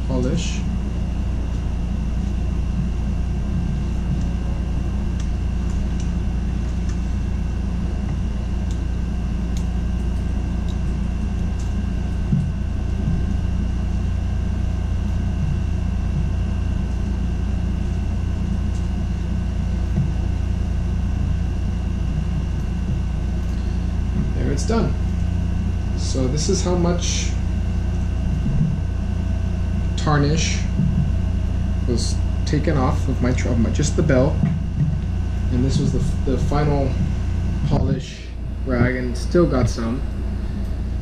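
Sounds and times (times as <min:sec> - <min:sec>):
air conditioner hum: 0:00.0 - 0:41.0.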